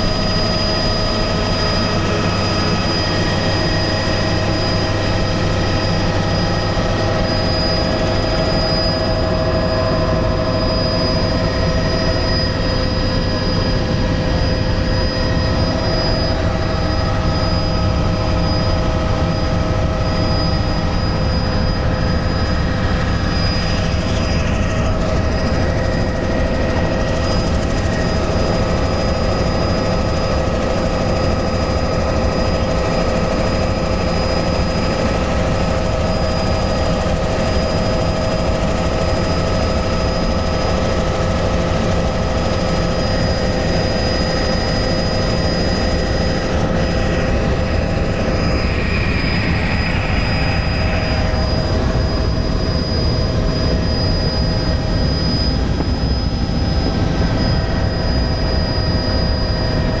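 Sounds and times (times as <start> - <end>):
helicopter engine and rotor noise: 0.0 - 60.0
thin high whine: 0.0 - 60.0.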